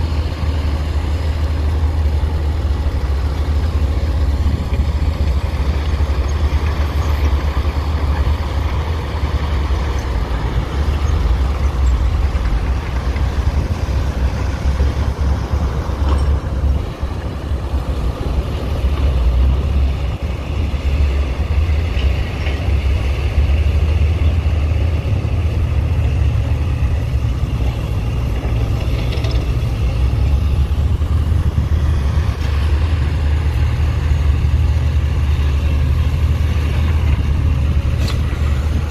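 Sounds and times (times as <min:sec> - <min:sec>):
heavy diesel machinery rumbling: 0:00.0 - 0:38.9.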